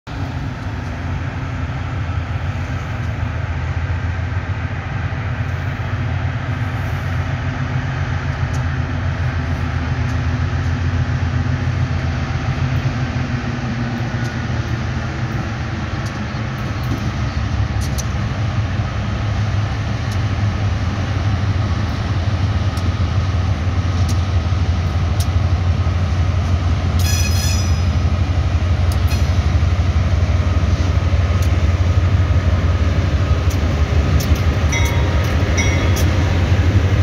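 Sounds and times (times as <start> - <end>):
locomotive engine drone: 0.0 - 37.0.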